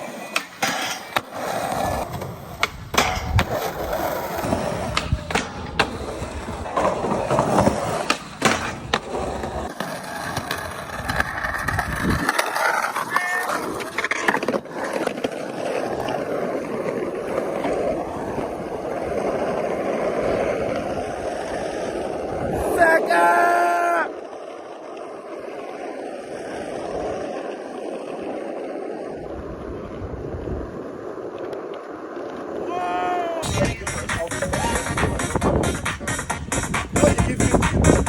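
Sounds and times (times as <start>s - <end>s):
skateboard clacks: 0.0s - 38.0s
skateboards rolling on hard ground: 0.0s - 38.0s.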